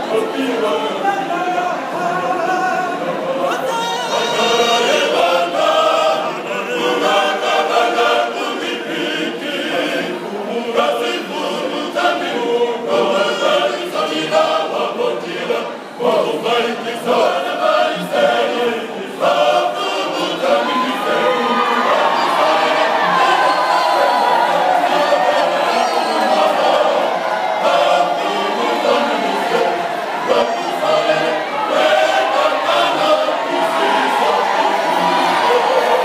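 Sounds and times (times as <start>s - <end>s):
men's choir singing: 0.0s - 36.0s.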